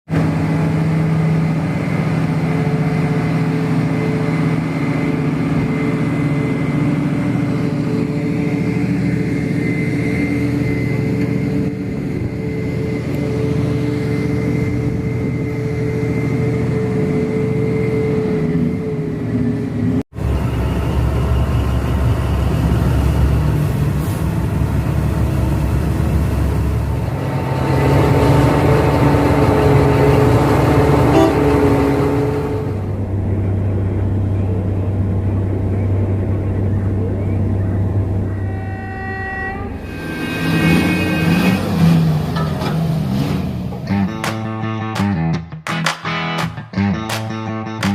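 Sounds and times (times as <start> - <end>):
haul truck diesel engine: 0.1 - 45.2
deeper heavier engine: 0.1 - 45.6.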